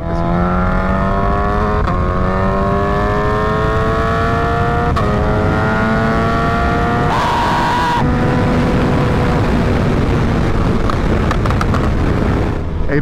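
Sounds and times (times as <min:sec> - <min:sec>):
motorcycle engine accelerating: 0:00.0 - 0:12.7.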